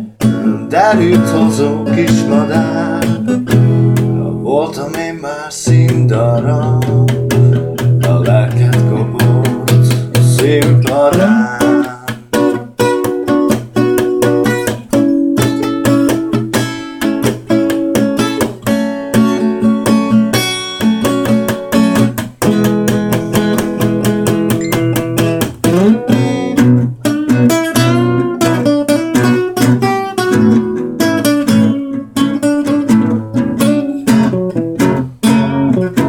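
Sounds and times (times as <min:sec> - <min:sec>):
acoustic guitar playing: 0:00.0 - 0:36.0.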